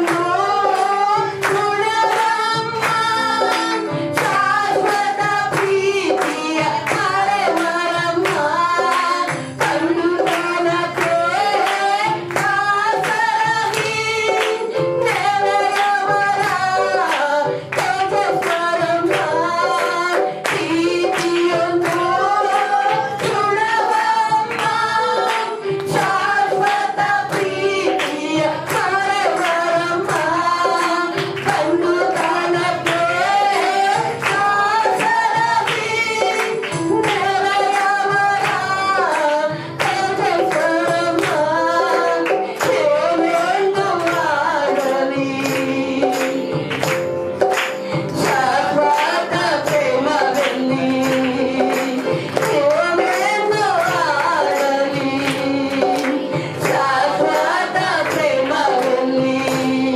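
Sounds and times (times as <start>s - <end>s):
musical accompaniment with beat: 0.0s - 59.9s.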